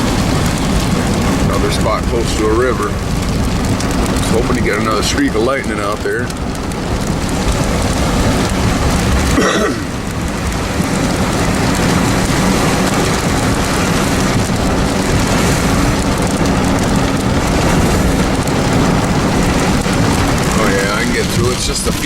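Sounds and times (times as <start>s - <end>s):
heavy rain drumming on car: 0.0s - 22.0s
low vehicle rumble: 0.0s - 22.0s.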